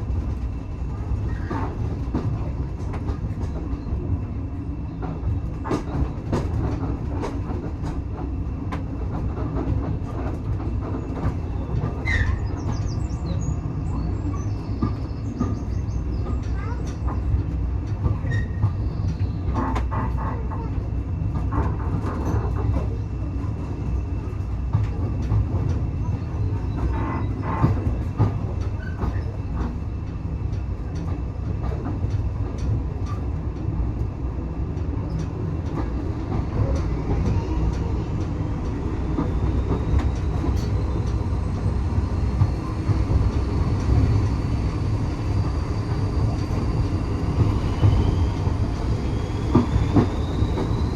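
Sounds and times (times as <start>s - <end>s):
train coach rumbling: 0.0s - 50.9s.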